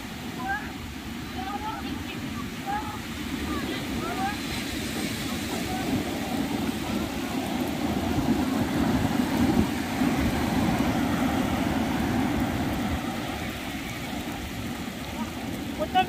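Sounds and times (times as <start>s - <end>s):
sea surf washing over sand: 0.0s - 16.0s.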